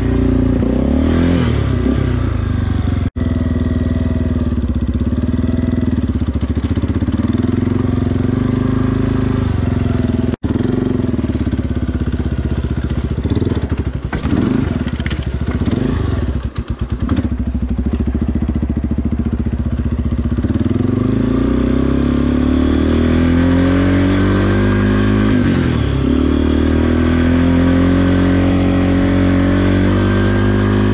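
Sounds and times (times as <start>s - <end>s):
quad bike engine revving: 0.0s - 30.9s.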